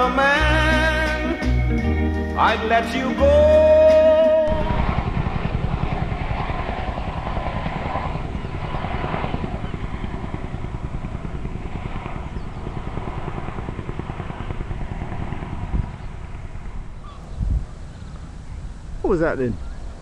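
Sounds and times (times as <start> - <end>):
steady noisy drone: 0.0 - 19.0
wind buffeting microphone: 3.3 - 20.0.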